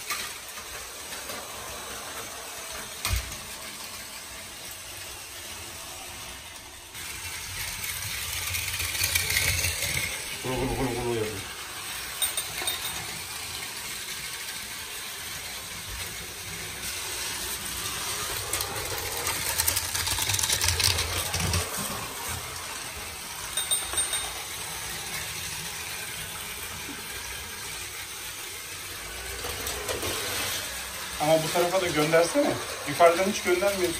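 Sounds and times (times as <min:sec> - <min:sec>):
toy train motor whir: 0:00.0 - 0:33.9
toy train wheels clicking on track: 0:00.0 - 0:33.9.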